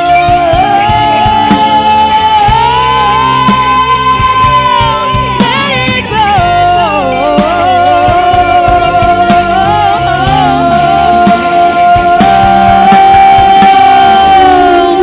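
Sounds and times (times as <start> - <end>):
rock band playing: 0.0 - 15.0
woman singing long note: 0.0 - 15.0.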